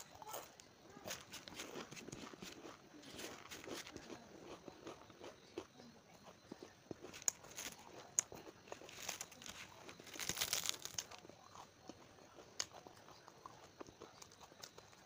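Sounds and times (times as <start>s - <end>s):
crunching of crisp snack: 0.0s - 15.0s.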